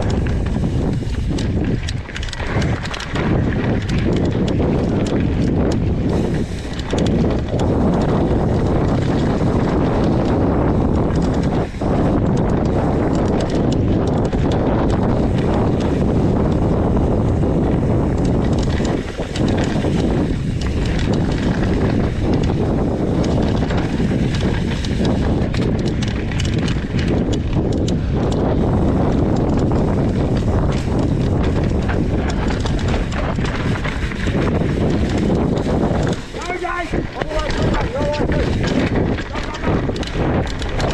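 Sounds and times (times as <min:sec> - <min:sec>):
bike knocking and rattling: 0:00.0 - 0:40.9
tyres rumbling on dirt and stones: 0:00.0 - 0:40.9
wind buffeting microphone: 0:00.0 - 0:40.9.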